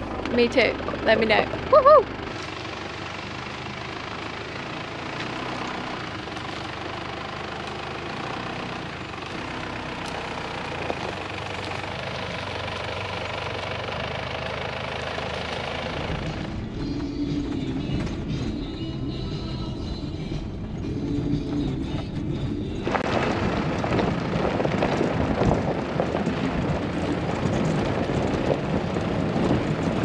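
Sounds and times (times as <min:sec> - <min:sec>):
engine running low: 0:00.0 - 0:30.0
tyres on gravel: 0:00.0 - 0:30.0.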